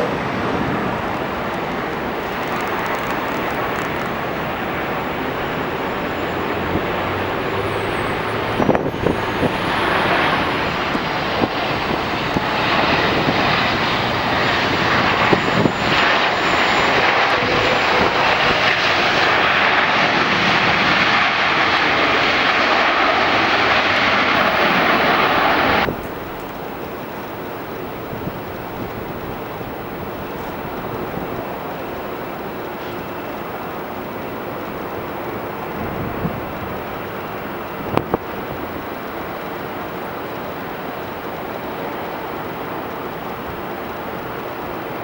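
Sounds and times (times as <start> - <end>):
jet airliner engine roar: 0.0 - 45.0.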